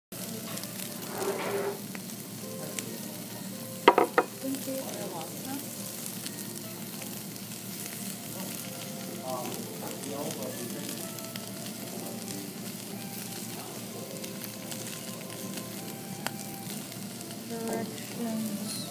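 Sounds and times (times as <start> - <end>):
food sizzling and crackling: 0.1 - 18.9.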